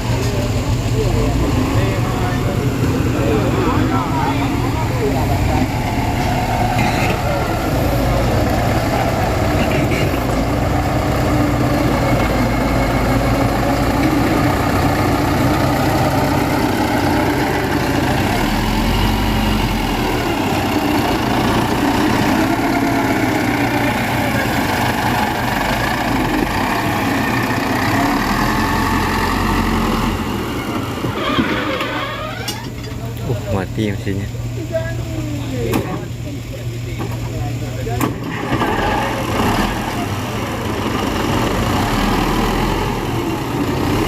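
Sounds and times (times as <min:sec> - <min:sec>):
diesel engine under load: 0:00.0 - 0:44.0.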